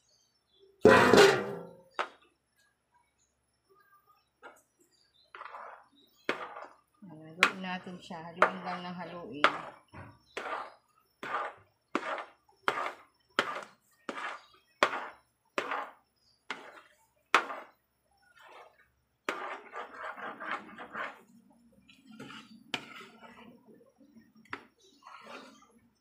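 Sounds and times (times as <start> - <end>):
spoon scraping in a pan: 0.8 - 2.2, 4.4 - 26.0.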